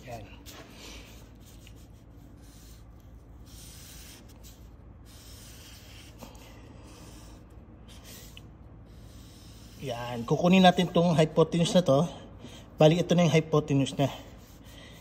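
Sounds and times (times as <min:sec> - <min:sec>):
marker rubbing on paper: 0:00.0 - 0:11.8, 0:12.8 - 0:15.0
low steady hum: 0:00.0 - 0:15.0.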